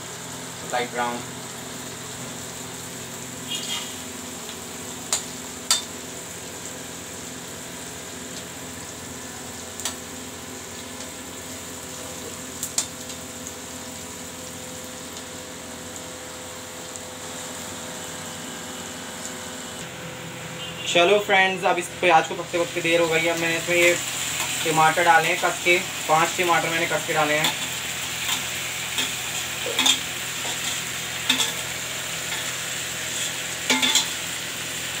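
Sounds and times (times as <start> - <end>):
onions sizzling in hot oil: 0.0 - 35.0.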